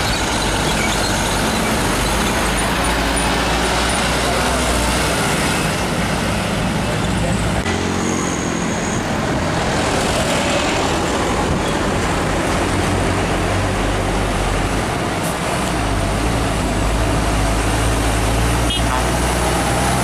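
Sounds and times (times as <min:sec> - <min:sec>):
road traffic noise: 0:00.0 - 0:20.0
truck diesel engine: 0:00.0 - 0:20.0.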